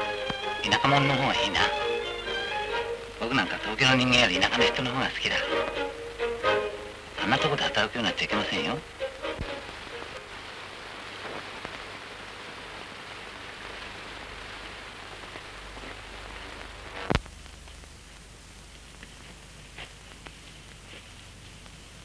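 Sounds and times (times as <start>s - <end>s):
film soundtrack hiss and crackle: 0.0s - 22.0s.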